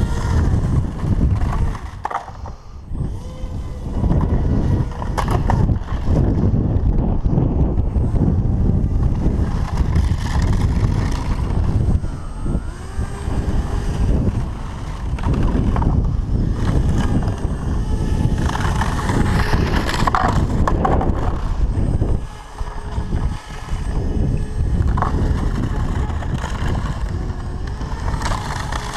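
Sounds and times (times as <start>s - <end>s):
motor and propeller whine: 0.0s - 28.9s
wind noise on microphone: 0.0s - 28.9s.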